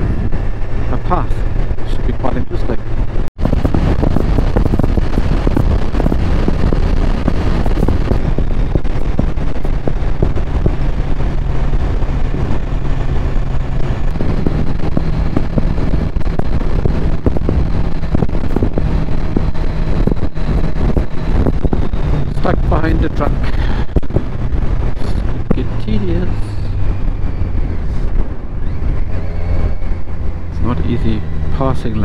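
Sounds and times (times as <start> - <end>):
motorcycle engine running: 0.0 - 32.0
wind buffeting microphone: 0.0 - 32.0.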